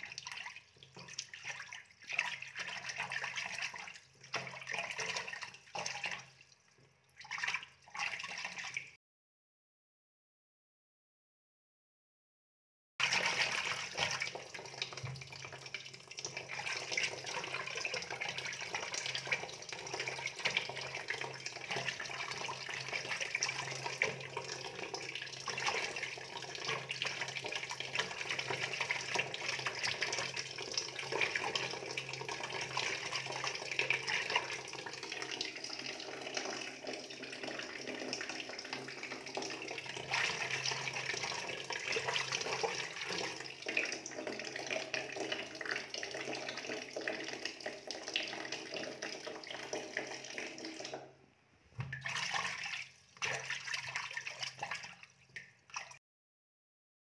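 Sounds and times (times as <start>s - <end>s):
water pouring: 0.0s - 9.0s, 13.0s - 51.2s, 51.8s - 56.0s.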